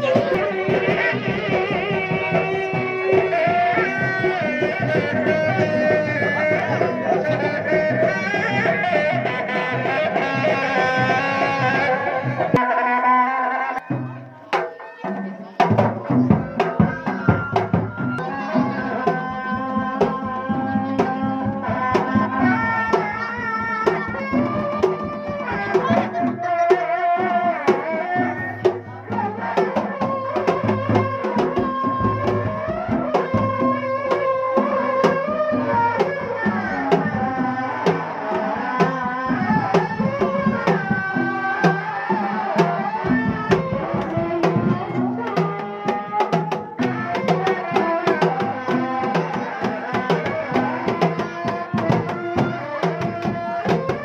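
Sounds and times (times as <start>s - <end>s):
fast drumming: 0.0s - 54.0s.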